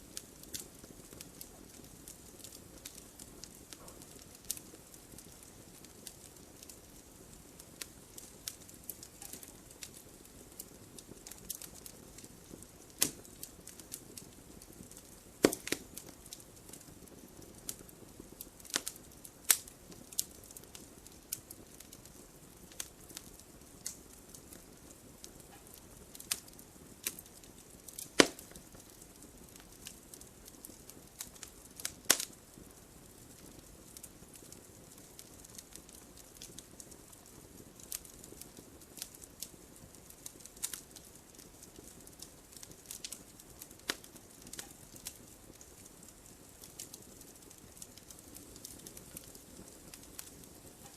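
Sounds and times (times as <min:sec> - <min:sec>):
soft steady hiss: 0:00.0 - 0:50.9
wood fire crackling: 0:00.0 - 0:50.9.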